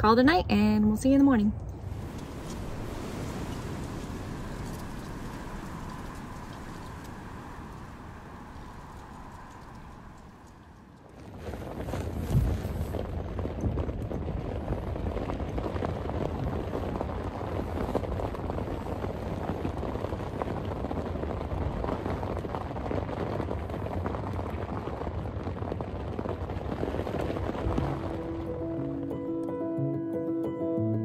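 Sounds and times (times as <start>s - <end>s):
wind: 0.0s - 29.6s
heavy rain: 1.7s - 29.2s.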